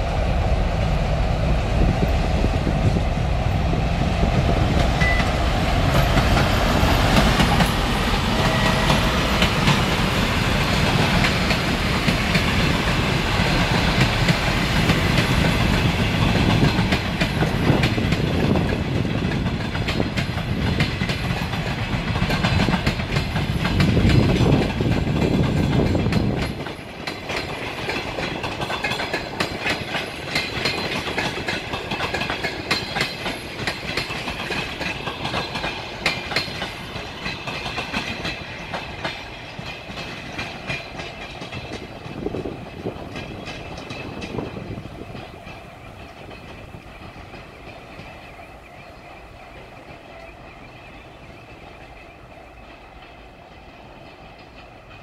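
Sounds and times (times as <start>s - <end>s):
diesel locomotive engine rumble: 0.0s - 55.0s
train wheels clattering on rail joints: 1.9s - 55.0s.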